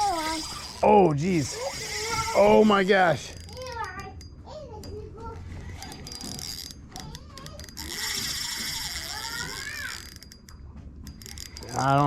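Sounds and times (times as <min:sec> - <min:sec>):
fishing reel drag ratcheting: 0:00.0 - 0:04.3, 0:05.4 - 0:12.0.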